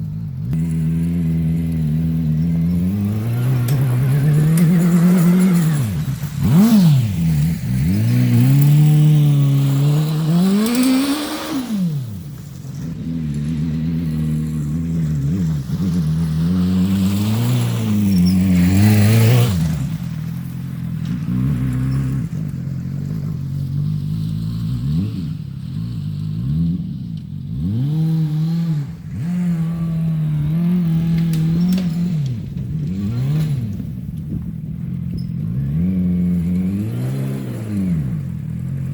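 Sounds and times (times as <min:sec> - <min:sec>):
small gas engine revving: 0:00.0 - 0:38.9.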